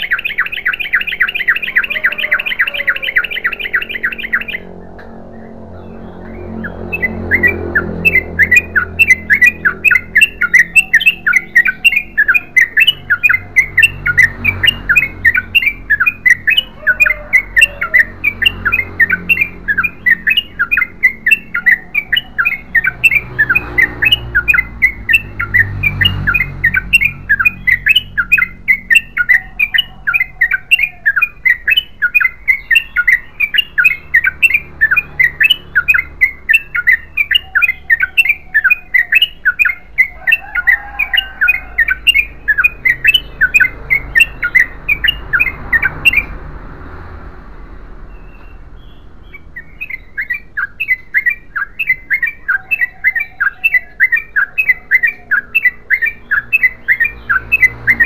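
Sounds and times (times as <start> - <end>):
bird singing rapid sharp notes: 0.0 - 46.6, 47.6 - 58.0.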